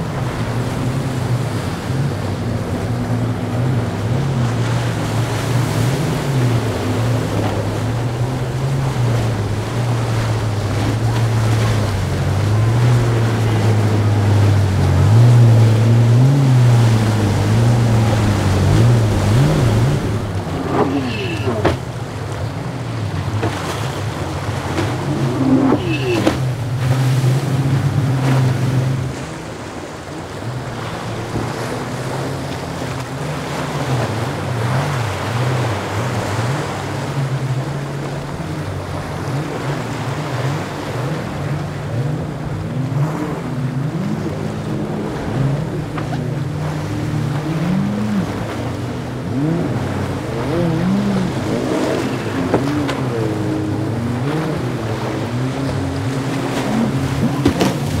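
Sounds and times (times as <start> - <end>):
boat engines running: 0.0 - 58.0
personal watercraft engine: 0.0 - 58.0
sea wash and splash: 0.0 - 58.0.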